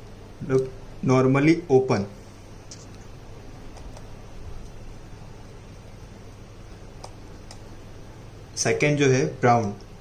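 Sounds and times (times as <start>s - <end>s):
steady low hum and hiss: 0.0s - 10.0s.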